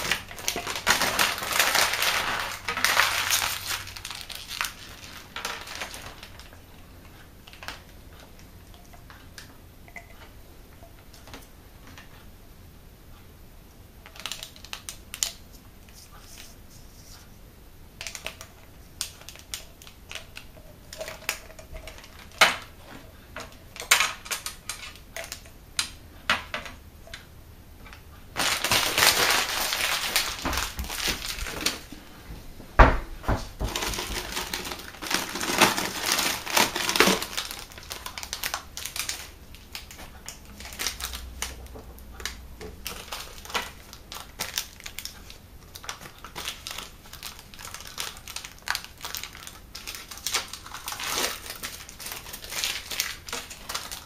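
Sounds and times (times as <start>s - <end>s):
rustling and crinkling: 0.0s - 12.2s, 14.0s - 25.5s, 27.8s - 54.0s.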